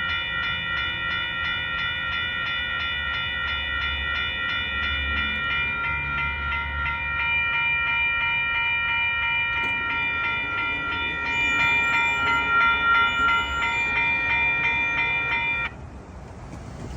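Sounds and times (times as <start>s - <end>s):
railroad crossing bell ringing: 0.0s - 16.0s
freight train rumbling: 0.0s - 16.9s.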